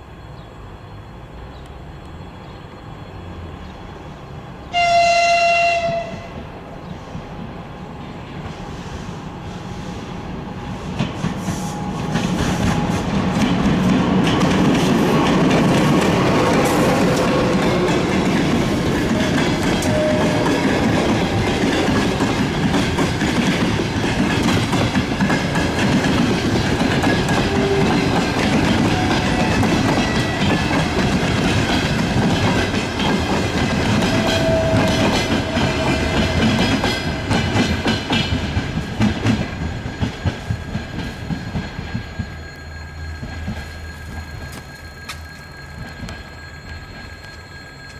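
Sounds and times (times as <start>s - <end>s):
train coaches rolling past: 0.0s - 47.9s.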